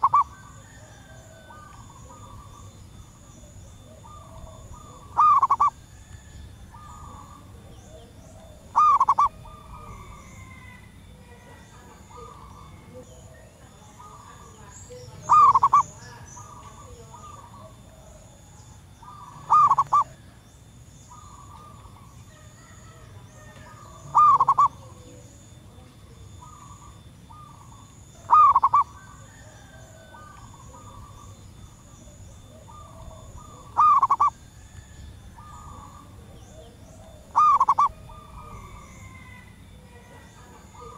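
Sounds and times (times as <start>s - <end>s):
dove cooing with trill: 0.0s - 40.9s
other birds calling: 0.0s - 40.9s.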